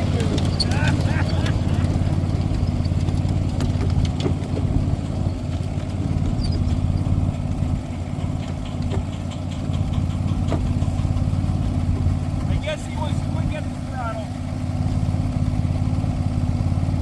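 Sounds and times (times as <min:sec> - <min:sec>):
small train engine running: 0:00.0 - 0:17.0.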